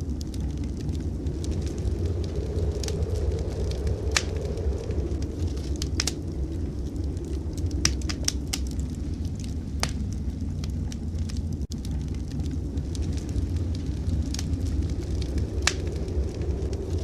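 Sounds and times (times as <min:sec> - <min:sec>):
blizzard wind rumble: 0:00.0 - 0:17.0
wood fire crackling: 0:00.0 - 0:17.0.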